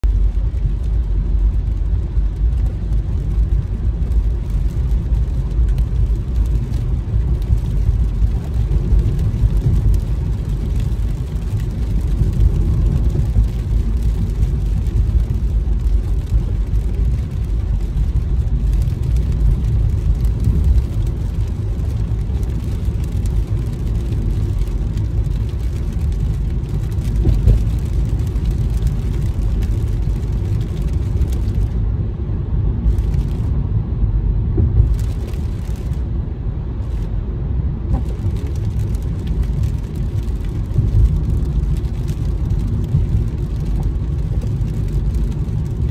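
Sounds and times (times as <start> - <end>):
car driving on wet road: 0.0 - 45.9.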